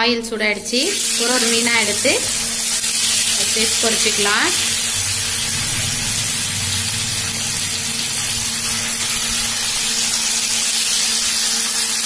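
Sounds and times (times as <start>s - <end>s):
fish sizzling in hot oil: 0.7s - 12.0s.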